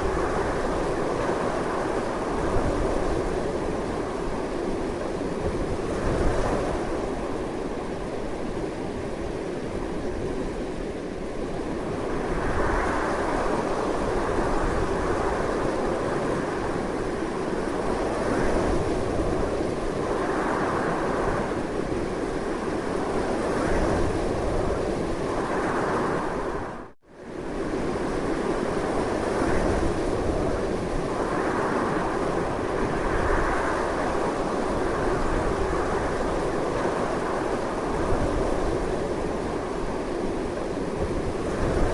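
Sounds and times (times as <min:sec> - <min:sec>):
strong wind blowing: 0:00.0 - 0:41.9.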